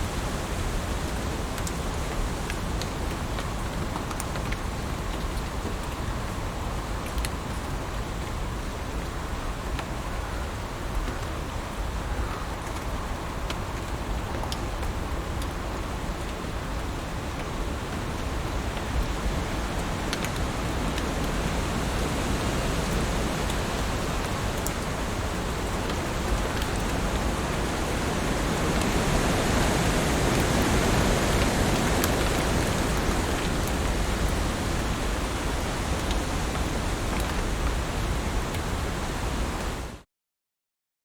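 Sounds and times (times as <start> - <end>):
heavy rain falling: 0.0 - 10.0, 10.6 - 40.0.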